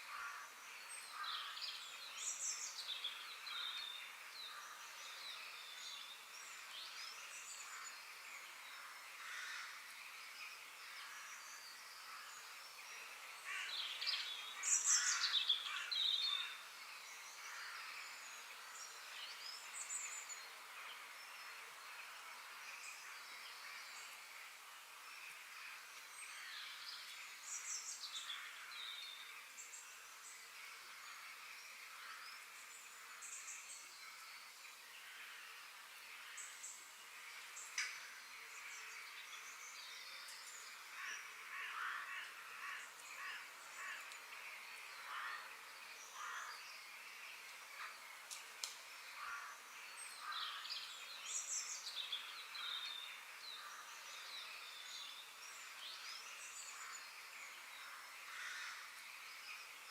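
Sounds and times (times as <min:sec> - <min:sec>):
soft outdoor hiss: 0:00.0 - 0:59.9.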